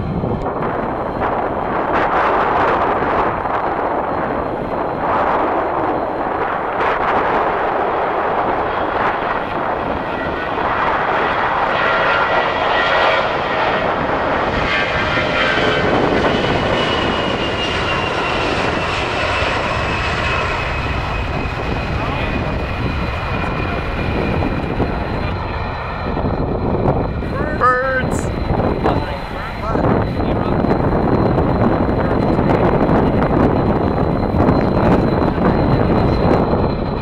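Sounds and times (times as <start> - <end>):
jet engines rushing: 0.0 - 37.0.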